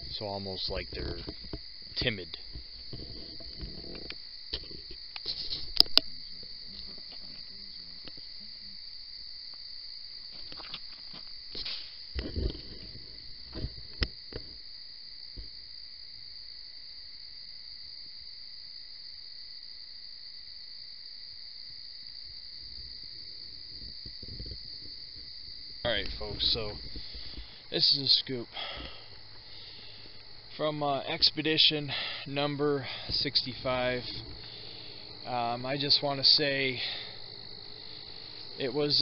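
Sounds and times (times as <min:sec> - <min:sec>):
insects chirping at night: 0:00.0 - 0:39.0.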